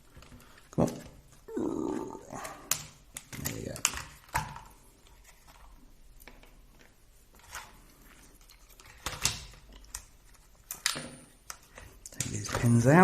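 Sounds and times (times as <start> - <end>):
plastic parts clicking and tapping: 0.0 - 1.4, 2.4 - 13.0.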